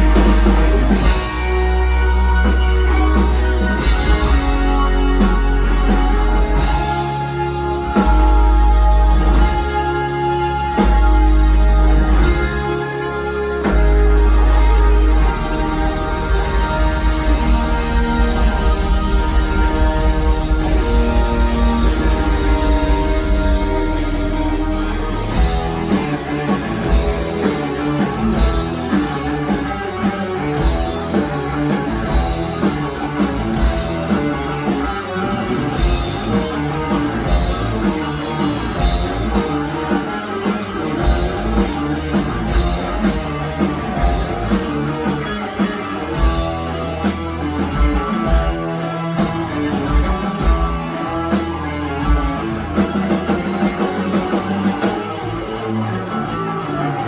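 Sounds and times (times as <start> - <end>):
drum kit beat: 0.0 - 57.0
guitars: 0.0 - 57.0.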